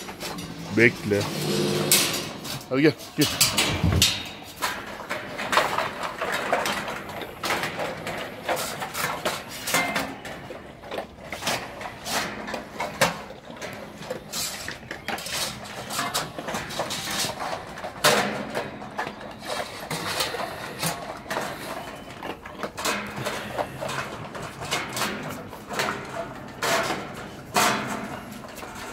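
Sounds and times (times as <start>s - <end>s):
dogs eating from metal bowls: 0.0s - 28.9s.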